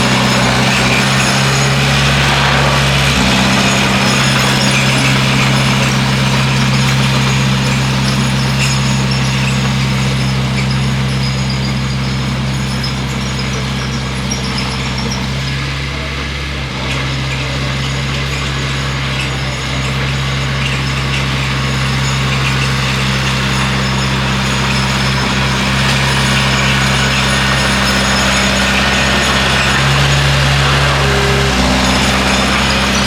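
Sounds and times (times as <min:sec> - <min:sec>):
bulldozer diesel engine: 0:00.0 - 0:33.0.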